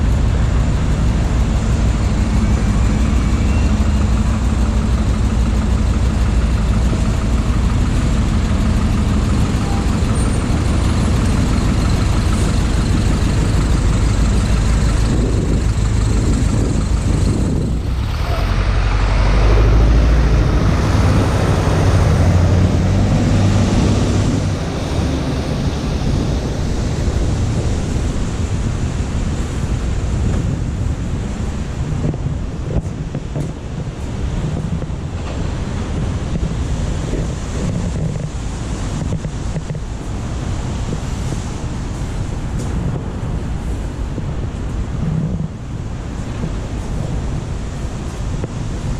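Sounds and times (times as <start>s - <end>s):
motor vehicle rumble with hiss: 0.0s - 48.9s.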